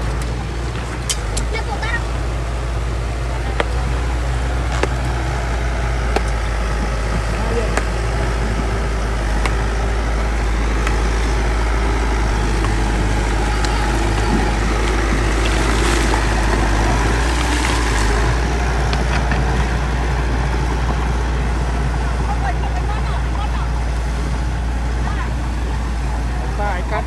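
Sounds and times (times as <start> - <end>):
bulldozer diesel engine droning: 0.0 - 27.0.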